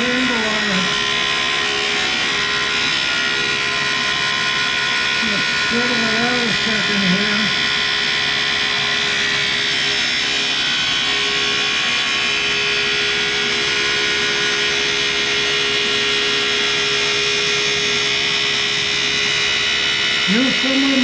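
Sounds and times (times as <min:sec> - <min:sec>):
grinder cutting carbide: 0:00.0 - 0:21.0
machine running tone: 0:00.0 - 0:21.0.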